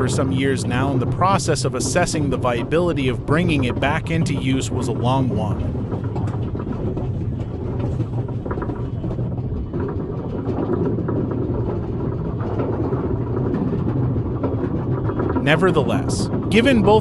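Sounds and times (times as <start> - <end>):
roller coaster rumbling on track: 0.0 - 17.0
sharp track clacks: 0.0 - 17.0
steady low hum: 0.0 - 17.0.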